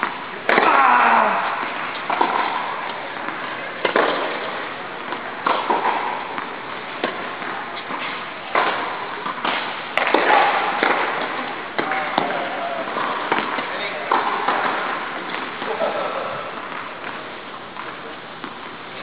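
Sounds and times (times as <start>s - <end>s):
tennis ball struck by rackets: 0.0s - 18.7s.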